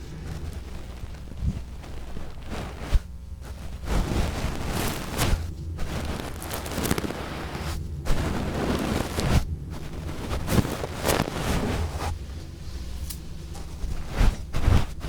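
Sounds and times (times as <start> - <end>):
scratching on microphone: 0.0 - 15.0.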